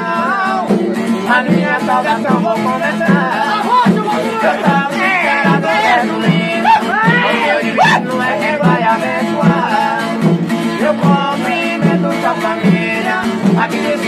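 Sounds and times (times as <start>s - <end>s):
men singing together: 0.0s - 14.0s
strummed small guitar: 0.0s - 14.0s
frame drums beating: 0.5s - 14.0s.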